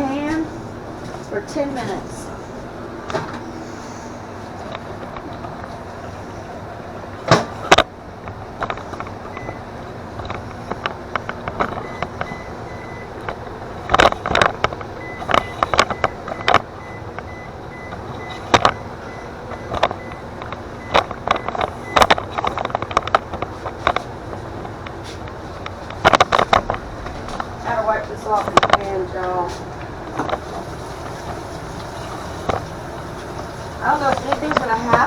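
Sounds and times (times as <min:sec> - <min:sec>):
microwave oven humming: 0:00.0 - 0:35.0.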